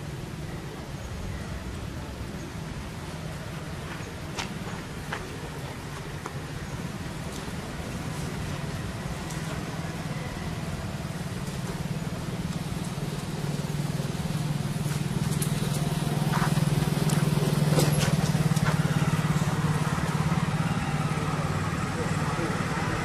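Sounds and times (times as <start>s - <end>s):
vehicle engine running: 2.8s - 23.0s.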